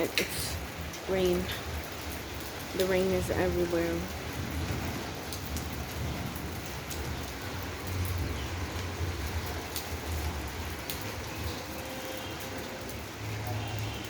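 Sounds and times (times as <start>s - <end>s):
sharp drips: 0.0s - 14.0s
steady rain: 0.0s - 14.0s.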